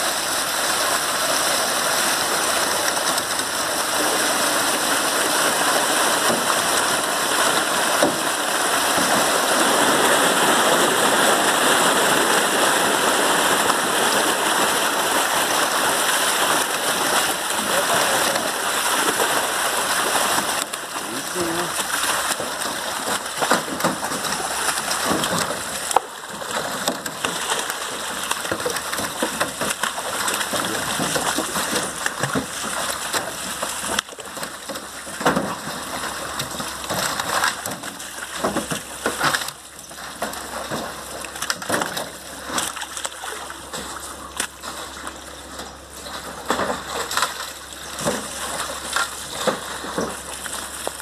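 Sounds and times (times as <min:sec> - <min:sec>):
water gushing down metal chute: 0:00.0 - 0:51.0
water splashing into pond: 0:00.0 - 0:51.0.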